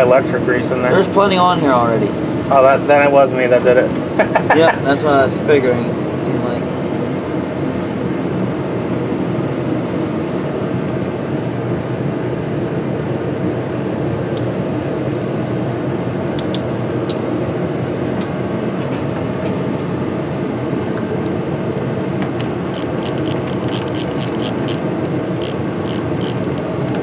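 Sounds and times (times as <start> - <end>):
fan rushing hum: 0.0 - 27.0.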